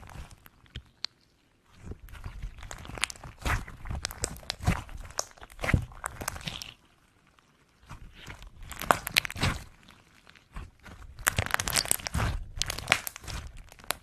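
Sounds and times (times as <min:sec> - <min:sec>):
slime squeezed with sticky pops: 0:00.0 - 0:06.8, 0:07.8 - 0:14.0.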